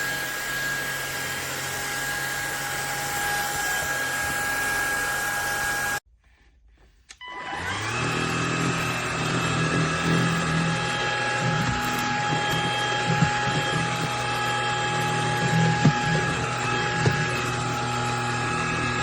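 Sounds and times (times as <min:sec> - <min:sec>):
vacuum cleaner motor whining: 0:00.0 - 0:06.0, 0:07.2 - 0:19.0.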